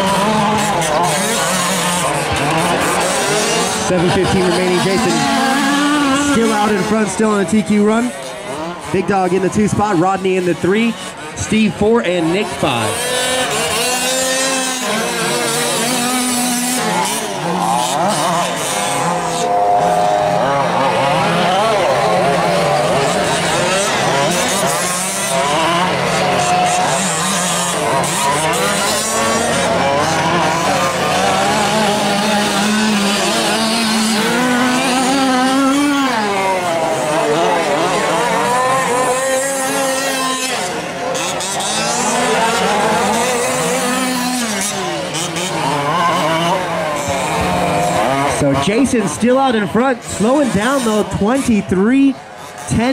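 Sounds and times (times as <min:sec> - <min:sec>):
model truck engines revving: 0:00.0 - 0:52.9.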